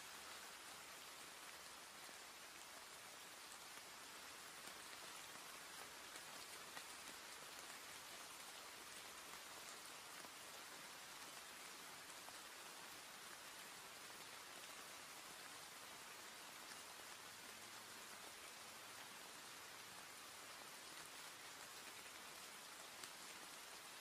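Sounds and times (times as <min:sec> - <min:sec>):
rain pattering: 0:00.0 - 0:24.0.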